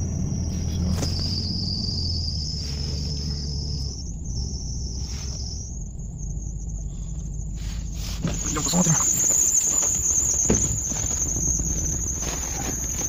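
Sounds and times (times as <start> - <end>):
car engine running: 0.0 - 13.0
high-pitched whine: 0.0 - 13.0.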